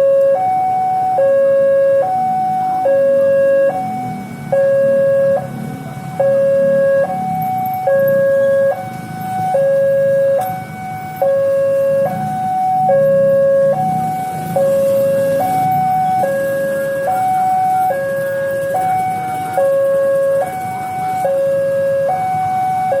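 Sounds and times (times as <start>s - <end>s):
level crossing alarm two-tone warning: 0.0s - 23.0s.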